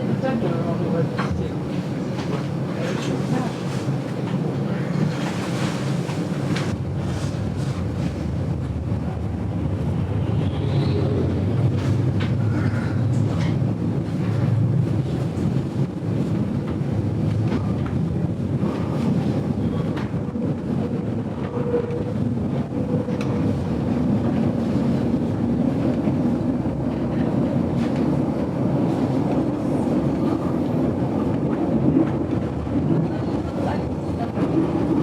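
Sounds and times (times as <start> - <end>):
train carriage rumbling: 0.0 - 35.0.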